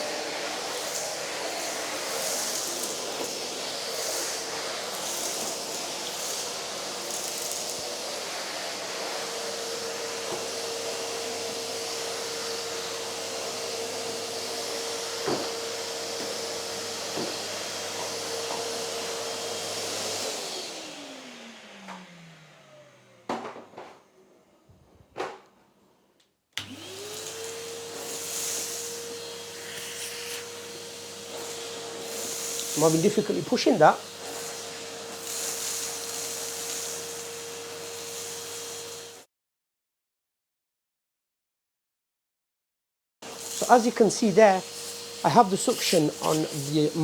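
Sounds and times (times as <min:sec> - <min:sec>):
vacuum cleaner motor whine: 0:00.0 - 0:25.4, 0:26.6 - 0:39.3, 0:43.2 - 0:47.0.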